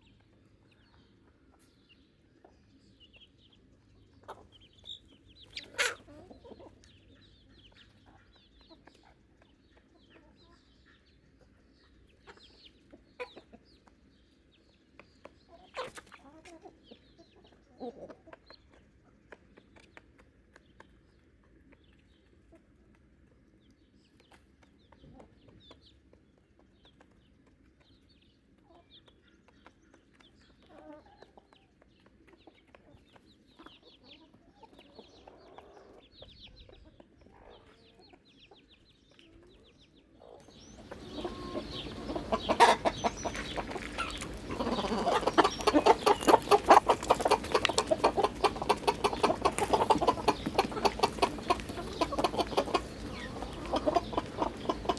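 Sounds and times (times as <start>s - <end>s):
chickens clucking softly: 0.0s - 54.9s.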